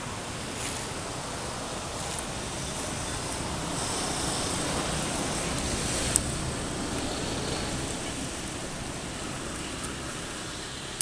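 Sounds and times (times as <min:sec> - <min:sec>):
rushing traffic-like background noise: 0:00.0 - 0:11.0.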